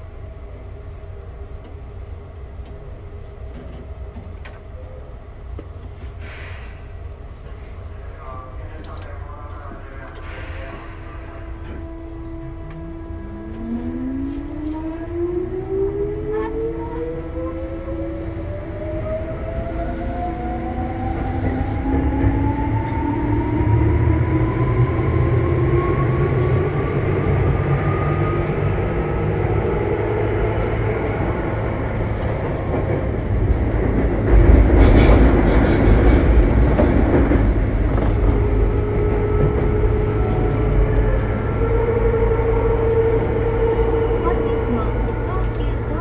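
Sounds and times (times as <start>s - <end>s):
rumble of wheels on rail: 0.0s - 46.0s.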